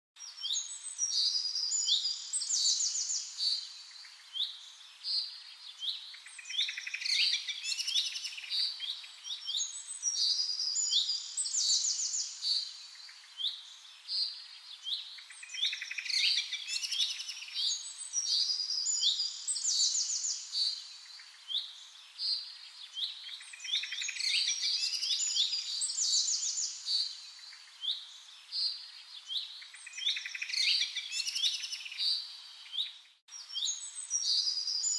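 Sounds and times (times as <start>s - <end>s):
songbirds chirping and singing: 0.2s - 34.9s.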